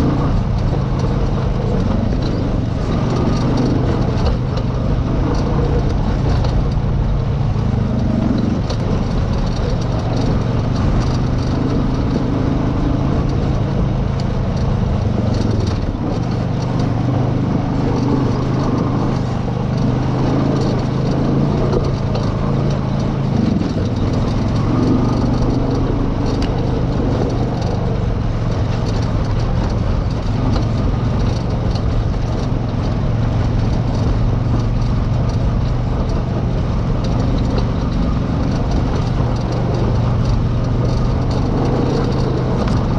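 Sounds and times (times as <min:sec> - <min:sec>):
atv engine revving: 0:00.0 - 0:42.9.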